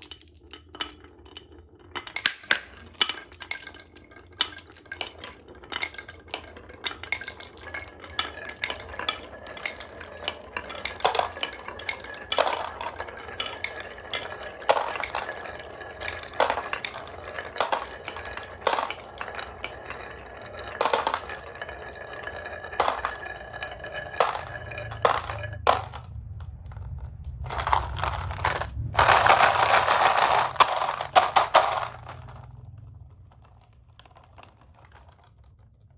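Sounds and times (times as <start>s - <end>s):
marbles clacking down wooden run: 0.0s - 35.9s
marbles rattling together: 0.0s - 35.9s.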